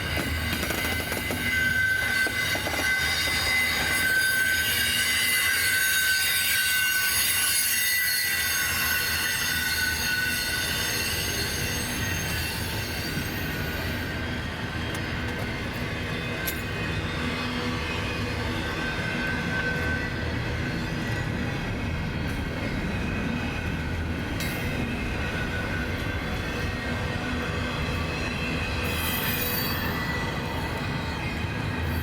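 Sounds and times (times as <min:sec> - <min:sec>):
train rumble: 0:00.0 - 0:07.6, 0:08.2 - 0:32.0
train wheels squealing: 0:00.0 - 0:32.0.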